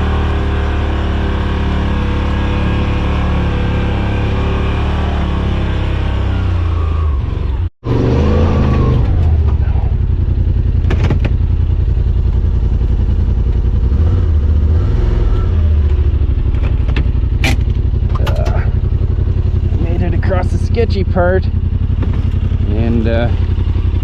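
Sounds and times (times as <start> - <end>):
utv engine running under load: 0.0 - 24.0.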